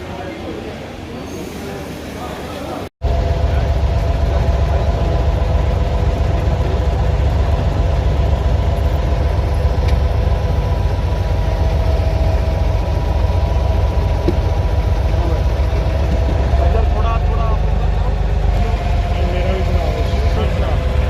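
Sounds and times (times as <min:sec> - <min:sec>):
engine humming: 0:03.0 - 0:21.0.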